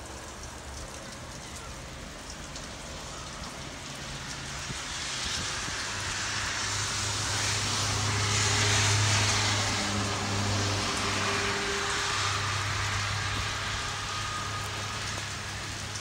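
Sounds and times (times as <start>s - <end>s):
engine hum: 0.0s - 16.0s
tyre hiss on wet road: 0.0s - 16.0s.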